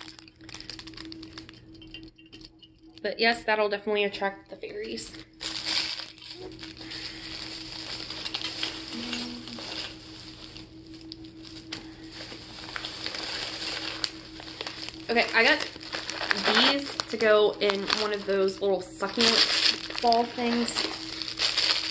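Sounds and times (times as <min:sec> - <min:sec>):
plastic bag rustling: 0:00.0 - 0:01.6, 0:05.0 - 0:21.9.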